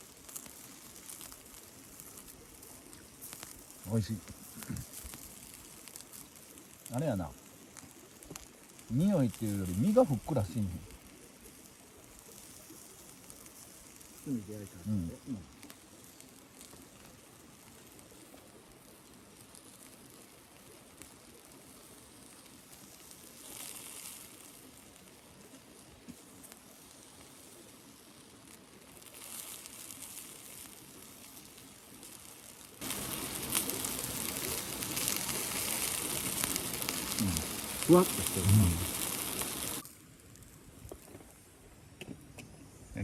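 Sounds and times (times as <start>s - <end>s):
loud steady hiss: 0.0s - 43.0s
skewers sizzling over charcoal: 0.0s - 43.0s.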